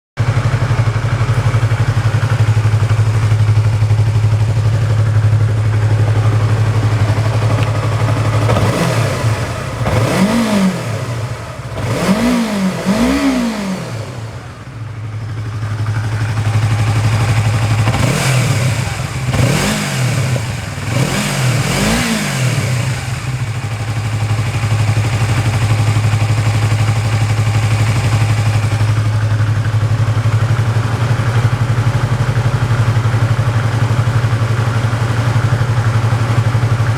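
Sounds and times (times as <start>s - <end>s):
motorcycle engine idling and revving: 0.2s - 36.9s.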